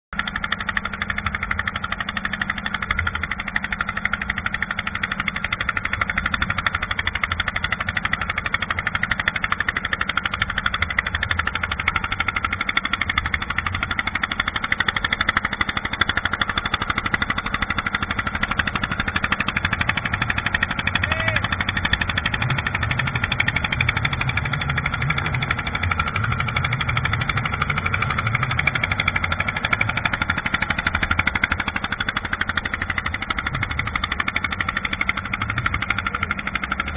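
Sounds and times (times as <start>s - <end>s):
engine running steadily: 0.1s - 36.9s.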